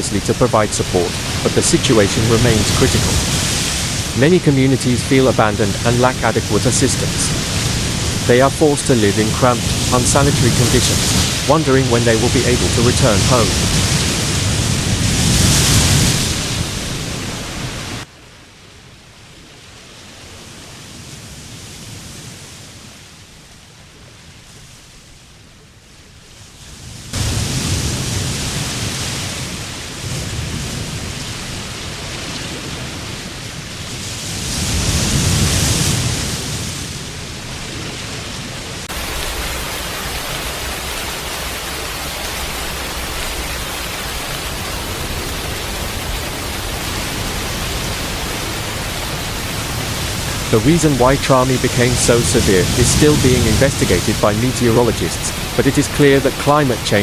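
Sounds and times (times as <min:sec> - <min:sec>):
heavy rain: 0:00.0 - 0:23.8, 0:26.9 - 0:57.0
wind: 0:00.0 - 0:57.0.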